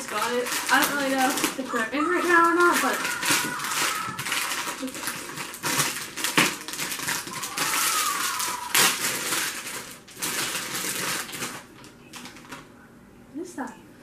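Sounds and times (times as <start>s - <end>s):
plastic packaging being torn: 0.0s - 12.6s.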